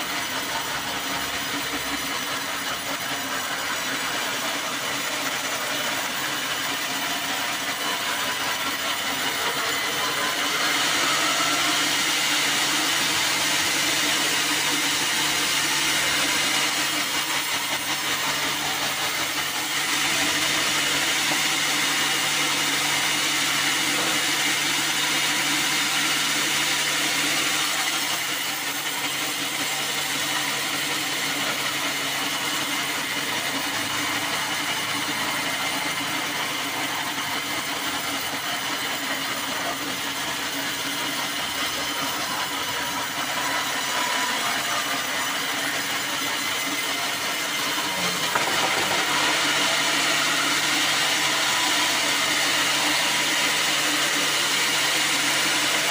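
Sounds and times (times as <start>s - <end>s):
sawmill motor hum: 0.0s - 55.9s.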